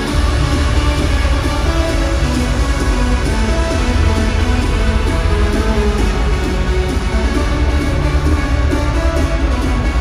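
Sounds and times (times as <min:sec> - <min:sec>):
loud trance music with heavy bass: 0:00.0 - 0:10.0.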